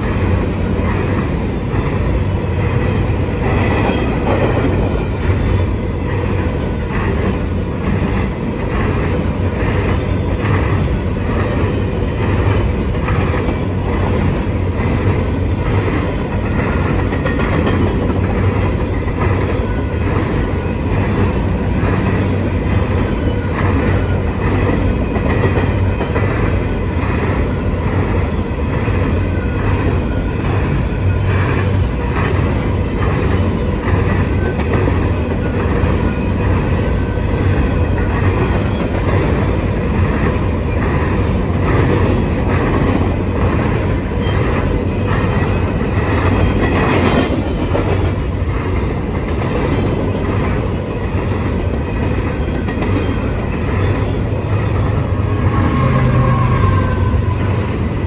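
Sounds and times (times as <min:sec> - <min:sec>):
freight train wheels rumbling: 0:00.0 - 0:58.0
wheels clickety-clack: 0:00.0 - 0:58.0.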